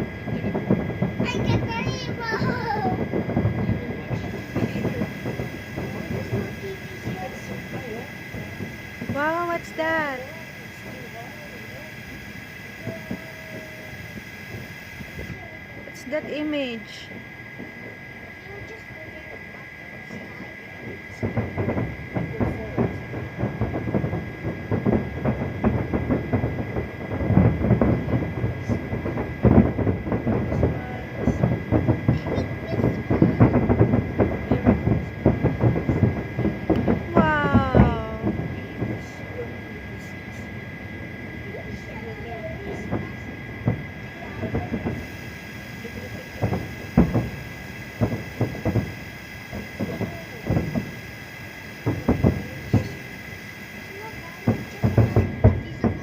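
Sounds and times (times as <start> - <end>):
distant fireworks exploding: 0.0 - 56.0
steady high whine: 0.0 - 56.0.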